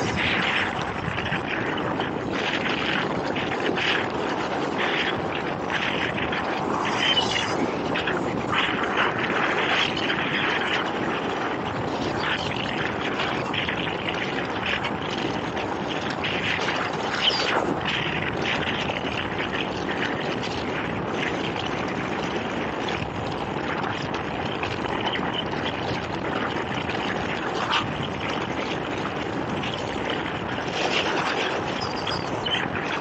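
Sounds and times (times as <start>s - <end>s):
boat engine and water rush: 0.0s - 33.0s.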